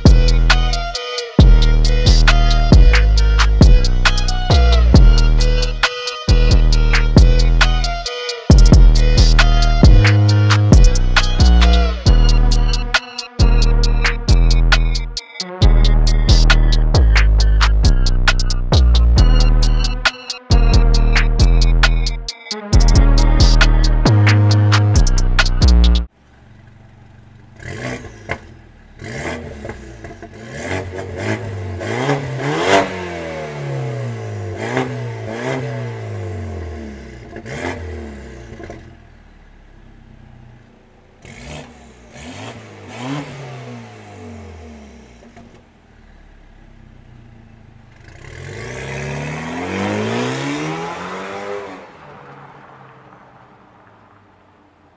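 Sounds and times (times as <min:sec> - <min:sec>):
exhaust cracks: 0:00.0 - 0:54.8
car engine revving: 0:00.0 - 0:54.9.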